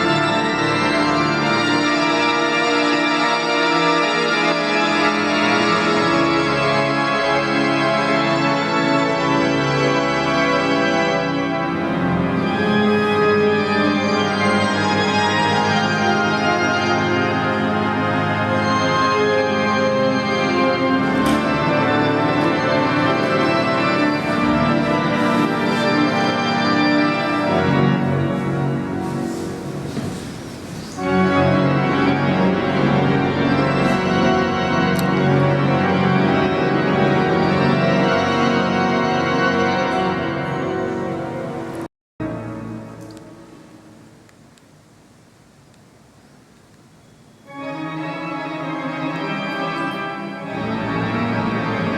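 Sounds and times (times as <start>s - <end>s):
church pipe organ chords: 0.0s - 45.3s, 46.1s - 51.9s.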